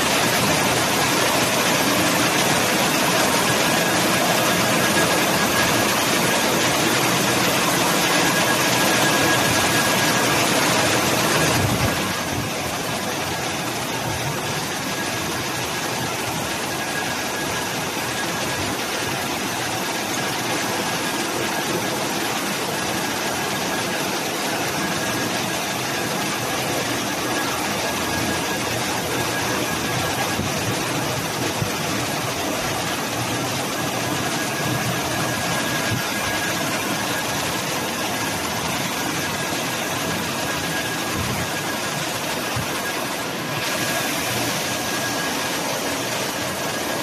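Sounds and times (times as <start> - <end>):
car wash blowers rushing air: 0.0 - 47.0.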